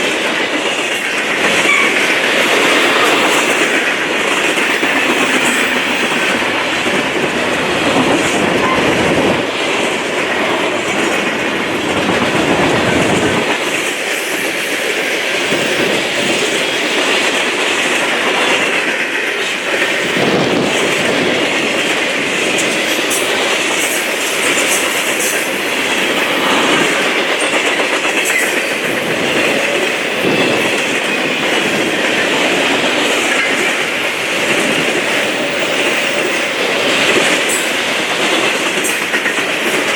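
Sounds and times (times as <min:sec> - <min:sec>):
clickety-clack of rail joints: 0:00.0 - 0:39.9
freight train rolling past: 0:00.0 - 0:39.9
steel wheels rattling on rails: 0:00.0 - 0:39.9.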